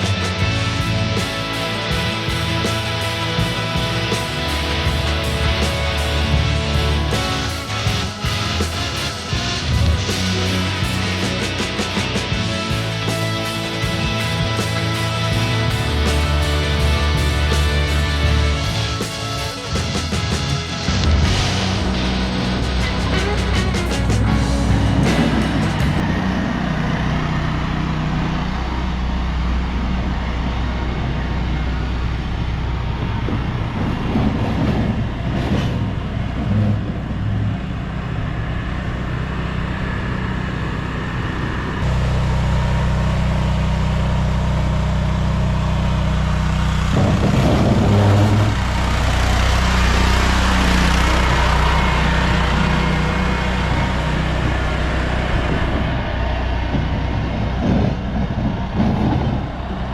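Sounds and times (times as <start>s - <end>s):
snowplow engine running: 0.0s - 59.9s.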